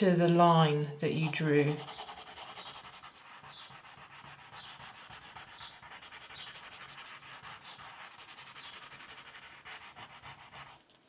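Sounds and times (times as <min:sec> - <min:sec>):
crayon scribbling on paper: 0:01.2 - 0:10.8.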